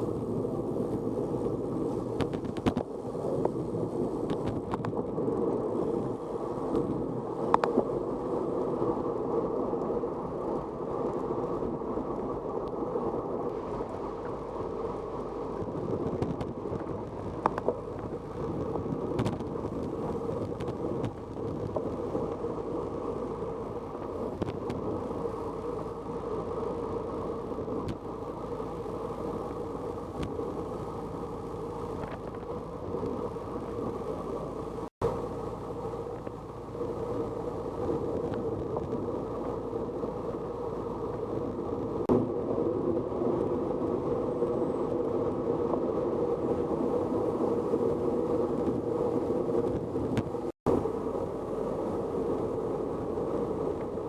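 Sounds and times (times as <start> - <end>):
muffled wind rushing: 0.0 - 54.0.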